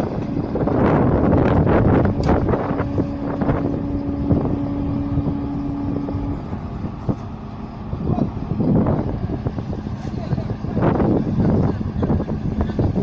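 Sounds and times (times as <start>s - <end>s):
road traffic rumble: 0.0s - 13.0s
steady hum: 0.0s - 13.0s
wind buffeting microphone: 0.0s - 13.0s.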